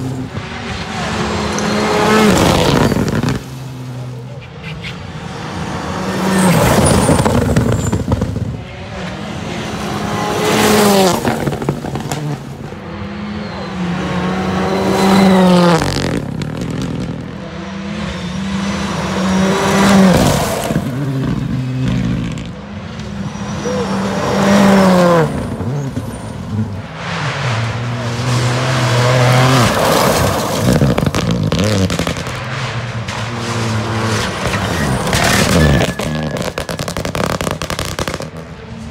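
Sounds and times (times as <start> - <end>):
rally cars passing at full throttle: 0.0 - 38.9.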